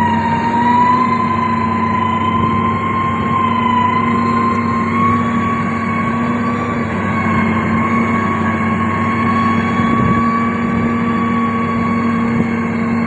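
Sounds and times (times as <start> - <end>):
diesel engine hum: 0.0 - 13.0
high steady whine: 0.0 - 13.0.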